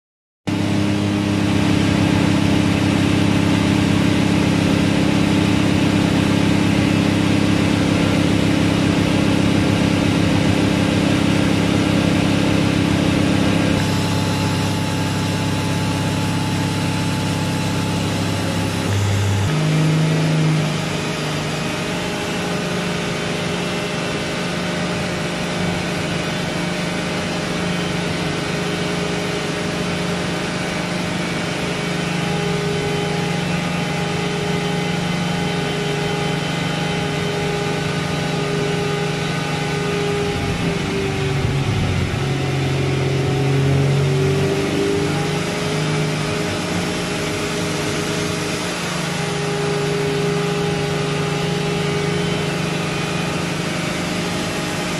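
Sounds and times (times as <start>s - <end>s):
engine running on dyno: 0.5s - 54.9s.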